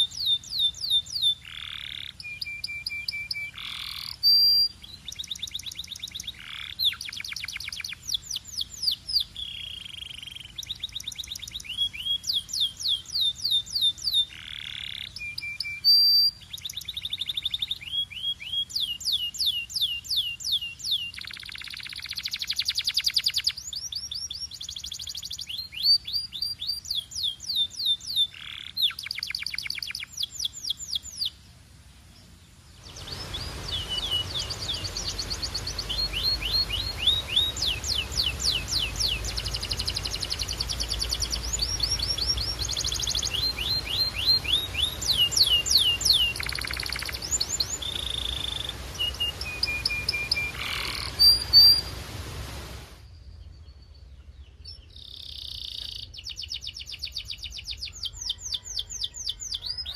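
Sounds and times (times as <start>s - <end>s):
canary singing trills: 0.0s - 31.4s, 32.8s - 52.0s.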